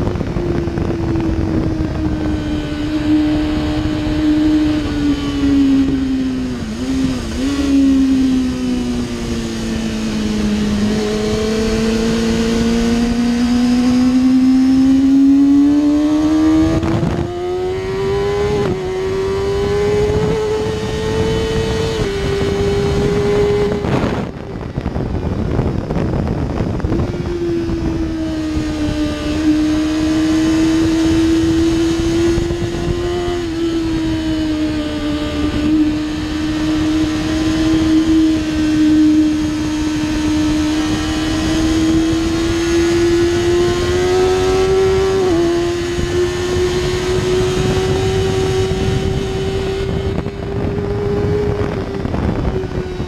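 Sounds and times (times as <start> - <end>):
motorcycle engine at speed: 0.0 - 53.0
wind rush: 0.0 - 53.0.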